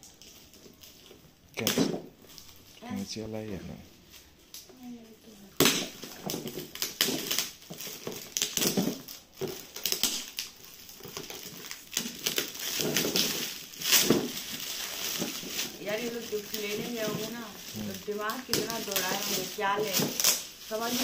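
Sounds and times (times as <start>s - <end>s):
foil wrap tearing and crinkling: 0.0s - 3.0s, 4.0s - 21.0s.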